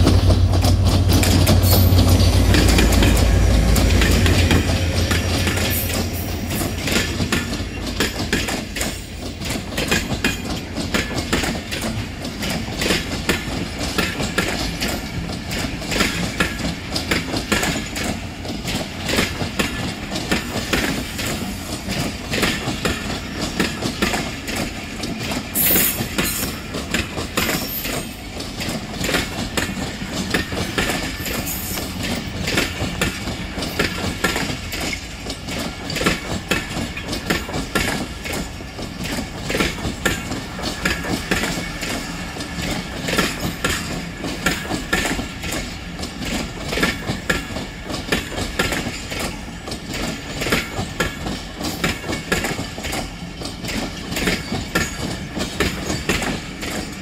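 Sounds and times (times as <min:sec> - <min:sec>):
train coaches rolling past: 0:00.0 - 0:57.0
wheels clicking over rail joints: 0:00.0 - 0:57.0.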